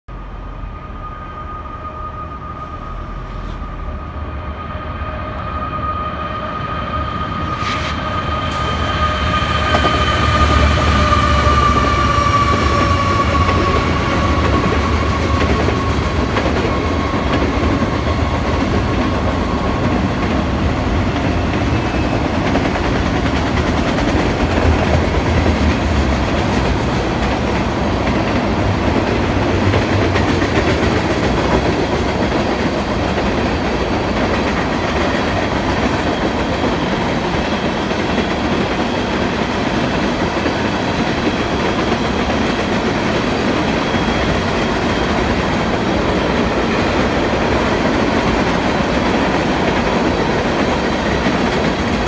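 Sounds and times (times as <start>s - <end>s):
freight train rumble and clatter: 0.1s - 52.0s.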